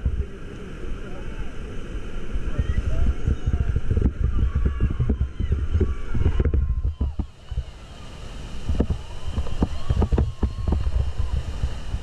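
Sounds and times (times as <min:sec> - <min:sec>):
rumbling buffeting on microphone: 0:00.0 - 0:12.0
whitewater rushing and splashing: 0:00.0 - 0:12.0.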